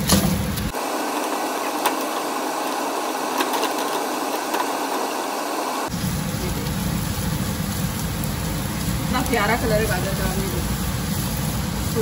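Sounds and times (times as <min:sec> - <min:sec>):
vegetables frying in a wok: 0:00.0 - 0:12.0.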